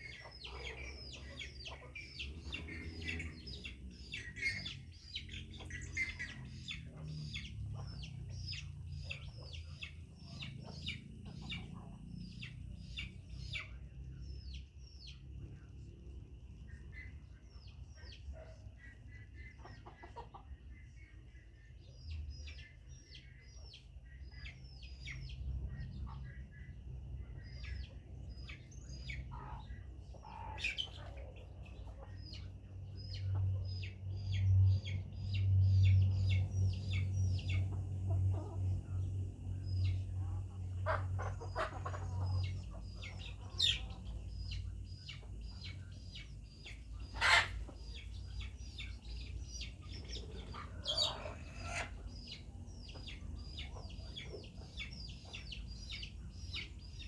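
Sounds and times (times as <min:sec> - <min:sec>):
chickens clucking: 0:00.0 - 0:13.9, 0:16.6 - 0:21.3, 0:22.1 - 0:57.0
chickens chirping: 0:00.0 - 0:57.0.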